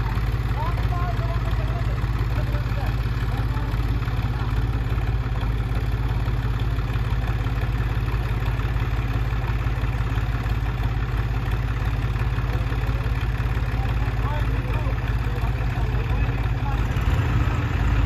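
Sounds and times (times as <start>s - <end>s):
tractor diesel engines rumbling: 0.0s - 18.0s.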